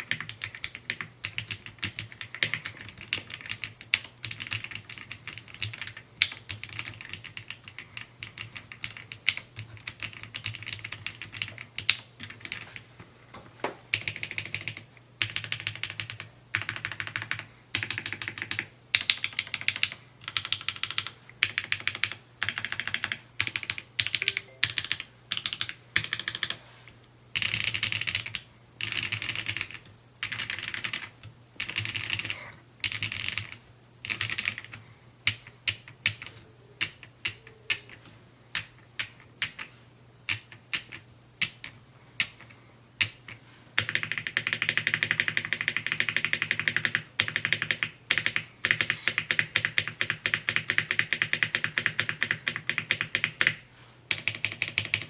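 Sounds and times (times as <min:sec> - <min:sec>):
mechanical keyboard typing: 0:00.0 - 0:12.8, 0:13.9 - 0:26.6, 0:27.4 - 0:39.7, 0:40.3 - 0:55.0.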